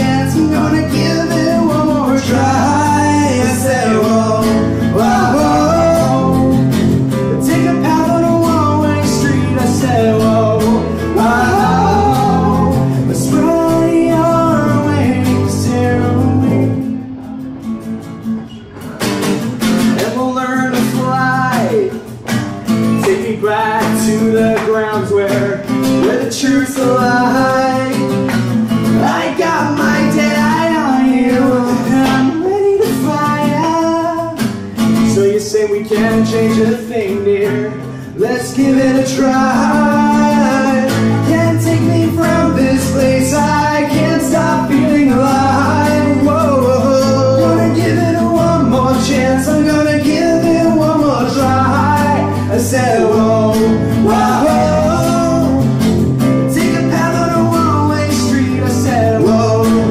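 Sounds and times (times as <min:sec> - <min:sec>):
man singing: 0:00.0 - 0:17.2, 0:19.8 - 0:22.3, 0:22.9 - 0:59.9
acoustic guitar: 0:00.0 - 0:59.9.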